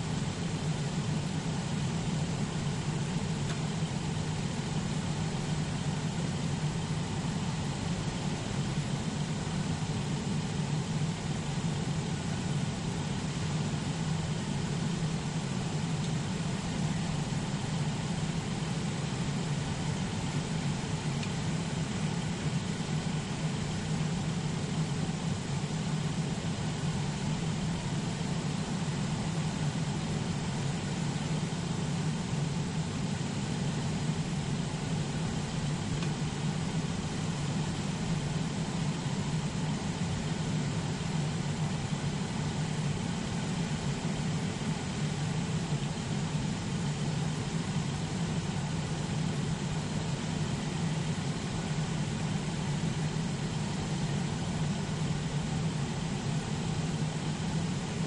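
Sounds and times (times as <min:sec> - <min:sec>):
air conditioning blowing: 0:00.0 - 0:58.0.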